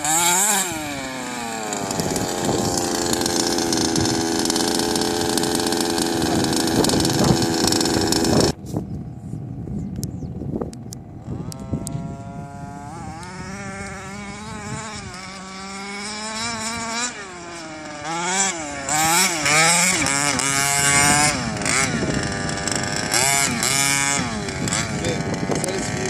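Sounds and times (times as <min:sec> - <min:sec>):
small two-stroke engine revving: 0:00.0 - 0:09.2, 0:10.8 - 0:26.0.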